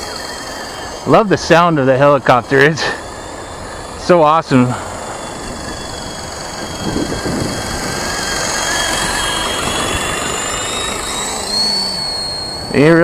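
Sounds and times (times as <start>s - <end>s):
rc helicopter motor whine: 0.0s - 13.0s.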